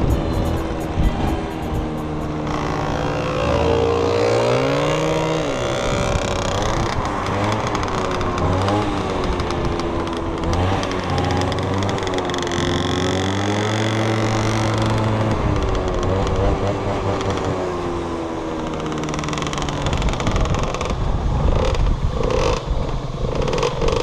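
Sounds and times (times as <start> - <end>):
road noise: 0.0 - 24.0
small motorbike engine running: 0.0 - 24.0
wind: 0.0 - 24.0.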